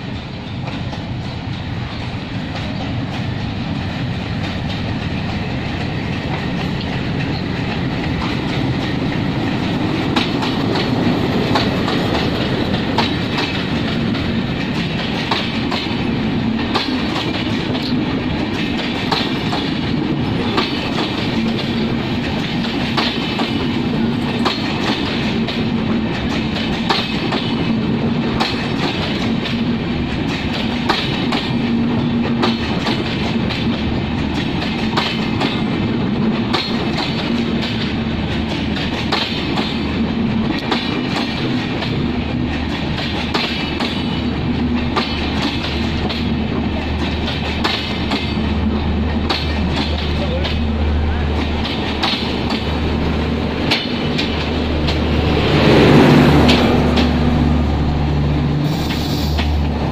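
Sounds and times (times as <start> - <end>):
train engine and rail rumble: 0.0 - 59.9
wheels clicking over rail joints: 0.1 - 57.3.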